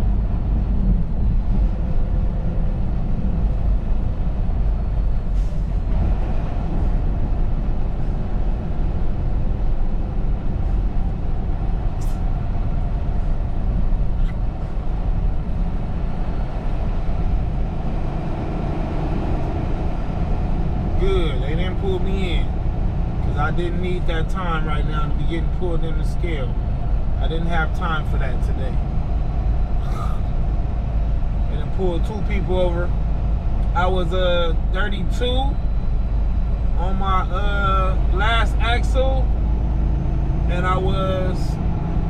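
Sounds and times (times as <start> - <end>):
truck engine and road drone: 0.0 - 42.0.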